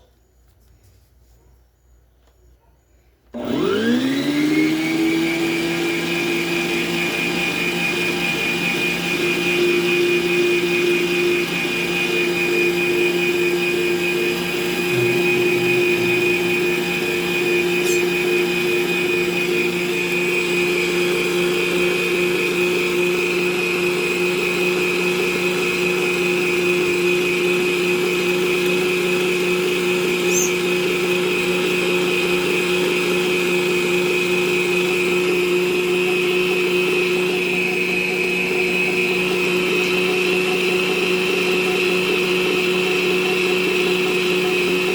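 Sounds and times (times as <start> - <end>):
stand mixer motor whining: 3.3 - 44.9.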